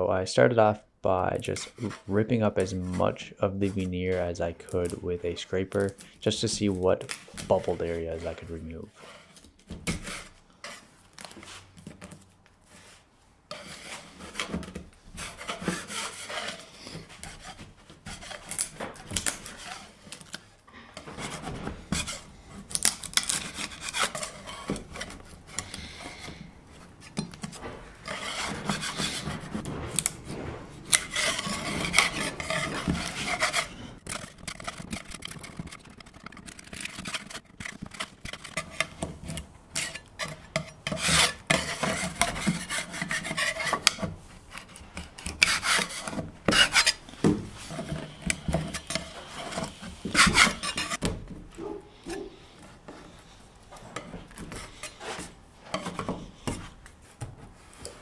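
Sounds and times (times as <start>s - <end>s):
metal scraper scraping wood: 1.4s - 56.9s.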